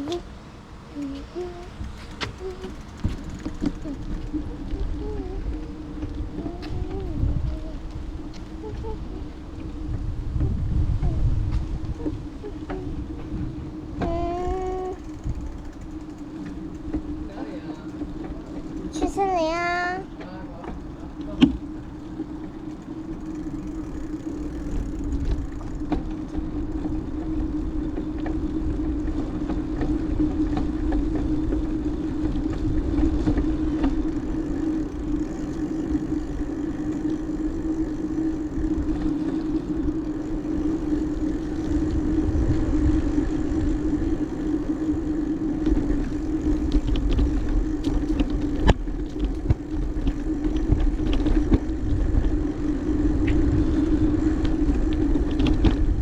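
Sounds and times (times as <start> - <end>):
low hum: 0.0 - 56.0
wind rumbling on microphone: 0.0 - 56.0.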